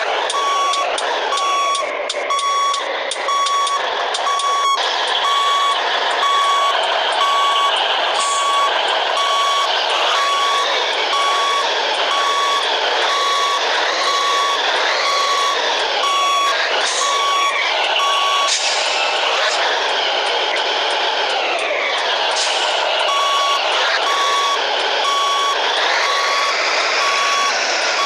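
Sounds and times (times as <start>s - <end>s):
reversing alarm beeping: 0.0s - 28.0s
truck diesel engine running: 0.0s - 28.0s.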